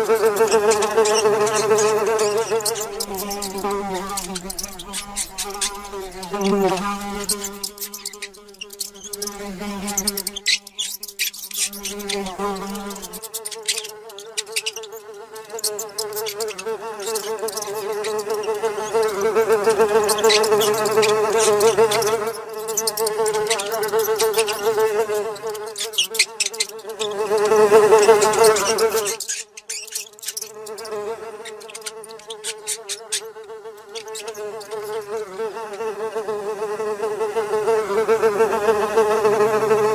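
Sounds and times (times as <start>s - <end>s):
housefly buzzing: 0.0s - 39.9s.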